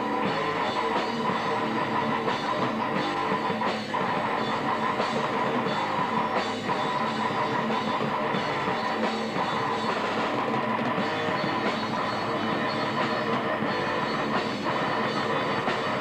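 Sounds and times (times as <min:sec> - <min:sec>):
drum kit with cymbal hits: 0:00.0 - 0:16.0
electric bass guitar: 0:00.0 - 0:16.0
rock band playing live: 0:00.0 - 0:16.0.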